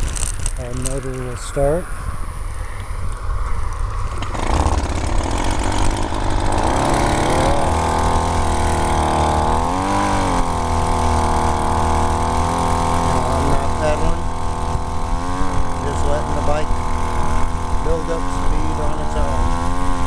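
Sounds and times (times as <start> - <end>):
small two-stroke engine starting and running: 0.0 - 2.0, 3.9 - 20.0
wind rumble on microphone: 0.0 - 20.0.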